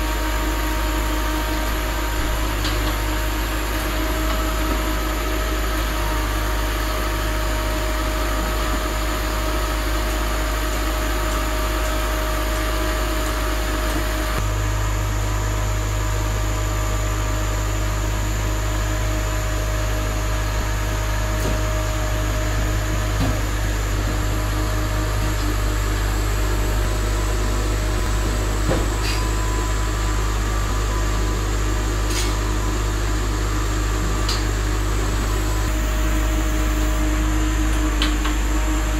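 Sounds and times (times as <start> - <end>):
harvester machinery droning: 0.0 - 38.9.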